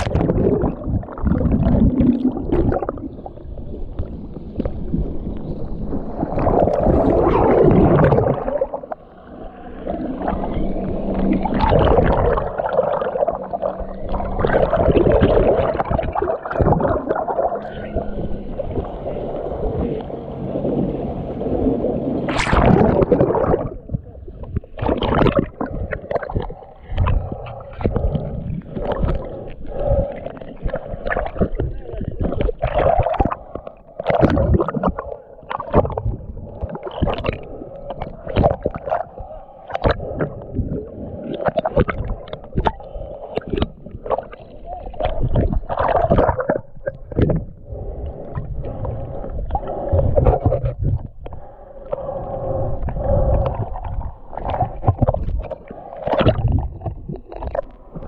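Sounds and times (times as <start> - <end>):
muffled underwater rushing: 0.0 - 58.0
water splashing: 0.0 - 58.0.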